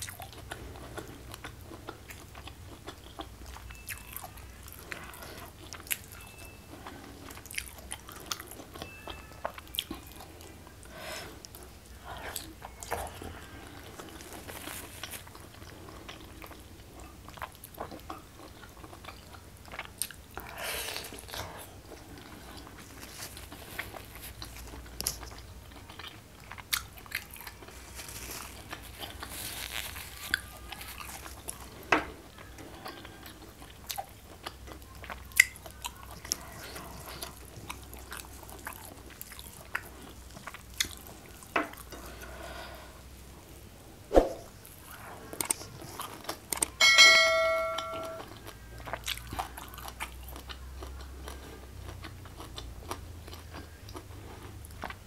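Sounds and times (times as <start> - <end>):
chewing with sharp crunches: 0.0 - 42.5, 44.6 - 46.8, 48.2 - 55.0.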